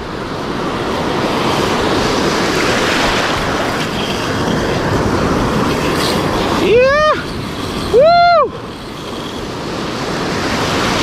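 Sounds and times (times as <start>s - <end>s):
surf washing over reef: 0.0s - 11.0s
wind buffeting microphone: 0.0s - 11.0s.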